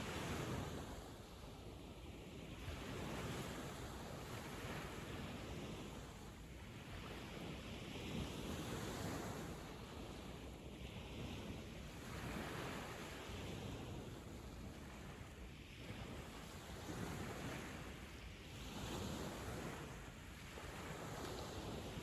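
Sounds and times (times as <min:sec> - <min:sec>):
waves breaking on sandy beach: 0:00.0 - 0:22.0.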